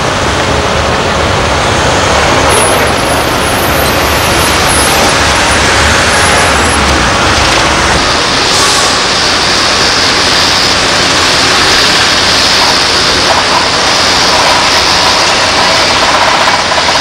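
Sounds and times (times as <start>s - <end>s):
dump truck diesel engine: 0.0s - 17.0s
heavy construction machinery din: 0.0s - 17.0s.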